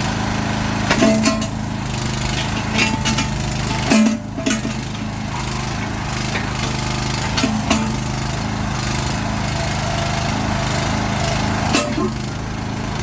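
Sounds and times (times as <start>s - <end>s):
mini excavator engine running: 0.0s - 13.0s.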